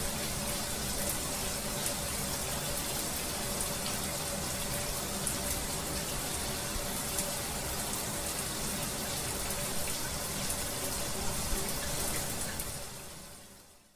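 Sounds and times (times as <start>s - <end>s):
shower spraying water: 0.0s - 13.6s.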